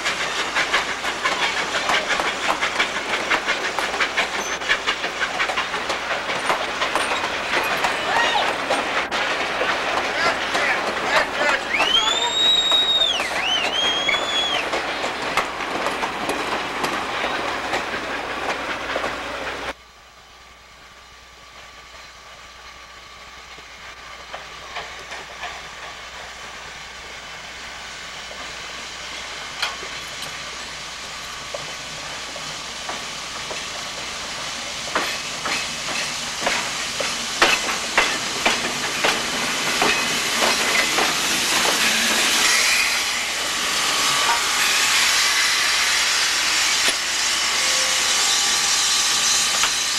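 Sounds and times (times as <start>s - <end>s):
train wheels clickety-clack: 0.0s - 19.8s, 21.5s - 49.9s
hiss of steam: 0.0s - 49.9s
steam locomotive approaching: 0.0s - 49.9s.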